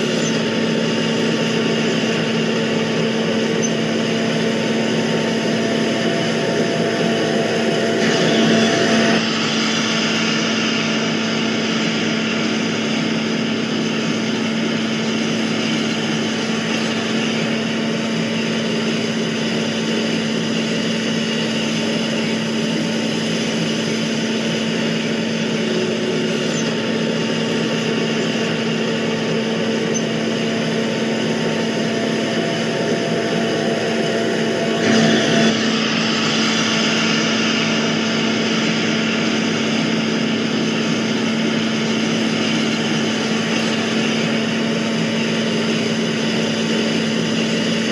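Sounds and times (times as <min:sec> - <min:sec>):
drone propellers humming: 0:00.0 - 0:47.9.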